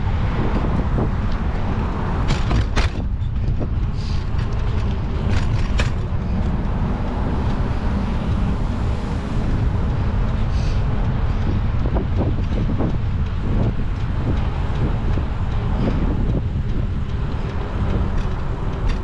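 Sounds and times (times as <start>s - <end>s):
street traffic: 0.0s - 19.0s
wind rumbling on microphone: 0.0s - 19.0s.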